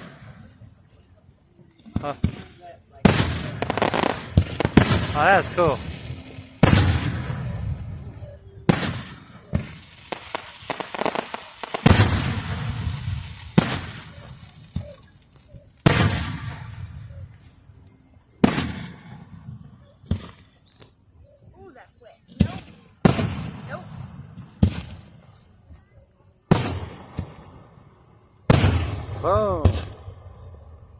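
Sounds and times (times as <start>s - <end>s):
fireworks crackling pops: 1.7s - 17.6s, 18.4s - 30.2s
fireworks booming: 1.8s - 15.2s, 15.8s - 17.7s, 18.4s - 20.6s, 22.3s - 25.2s, 26.5s - 30.9s.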